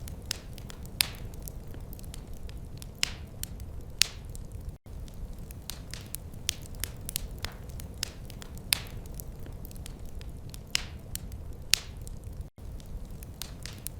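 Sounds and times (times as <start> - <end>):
wood fire crackling: 0.0 - 13.9.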